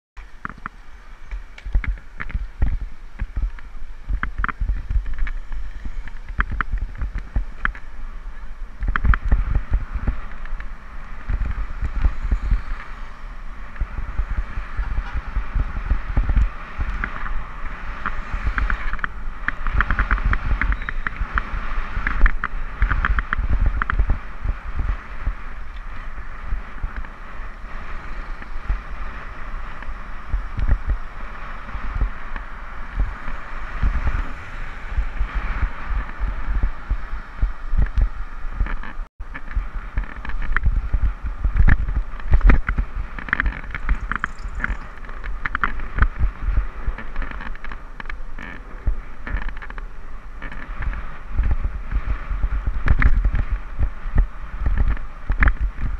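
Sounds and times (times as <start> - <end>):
steady road hiss: 0.2 - 55.9
wind buffeting microphone: 0.2 - 55.9.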